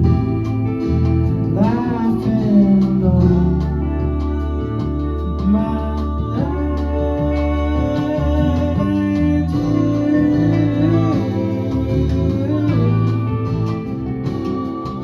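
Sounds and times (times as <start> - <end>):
bass notes: 0.0 - 15.0
guitar accompaniment: 0.0 - 15.0
person singing: 1.5 - 15.0.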